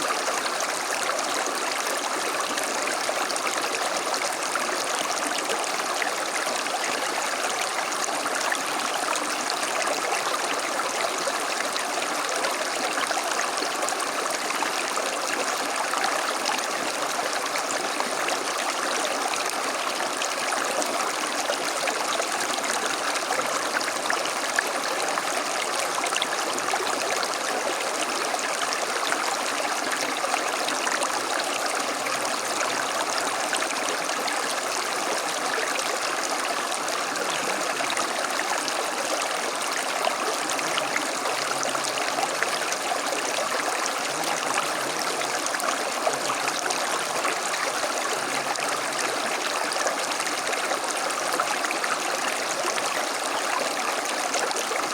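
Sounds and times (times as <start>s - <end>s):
stream burbling over stones: 0.0s - 54.9s.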